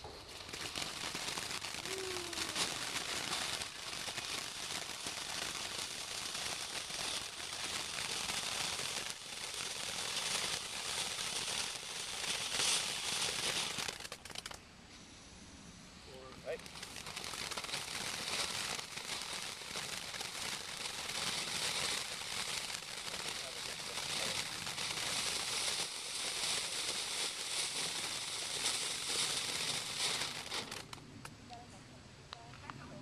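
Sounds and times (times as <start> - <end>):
firework crackling: 0.0 - 31.7.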